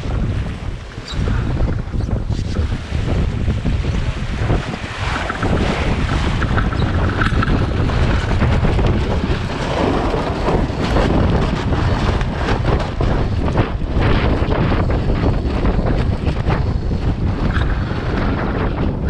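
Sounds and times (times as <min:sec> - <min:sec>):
rushing wind and water: 0:00.0 - 0:19.0
wind buffeting microphone: 0:00.0 - 0:19.0.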